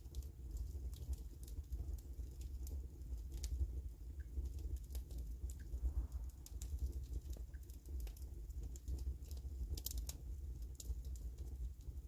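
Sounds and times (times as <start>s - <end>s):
low fire rumble: 0.0s - 12.0s
wood fire crackling and popping: 0.0s - 12.0s.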